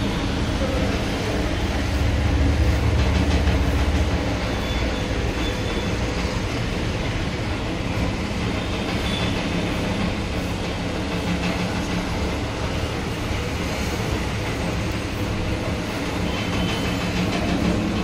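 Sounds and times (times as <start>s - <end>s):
rapid mechanical rattle: 0.0s - 18.0s.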